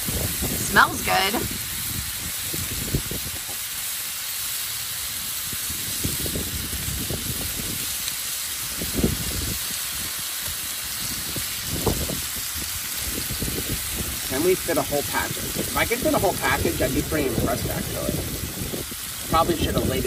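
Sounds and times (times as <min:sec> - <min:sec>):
wind buffeting microphone: 0:00.0 - 0:03.7, 0:05.1 - 0:20.0
bacon sizzling on a griddle: 0:00.0 - 0:20.0.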